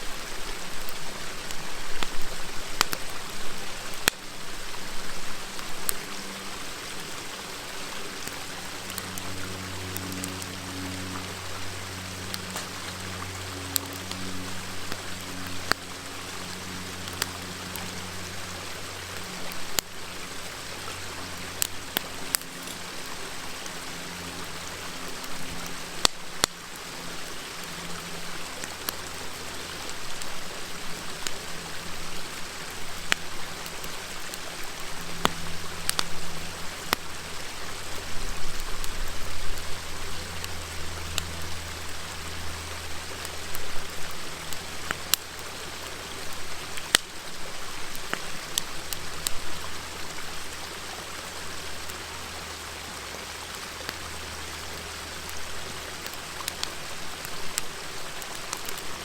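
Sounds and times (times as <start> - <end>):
river water babbling: 0.0 - 59.0
wood fire crackling: 0.0 - 59.0.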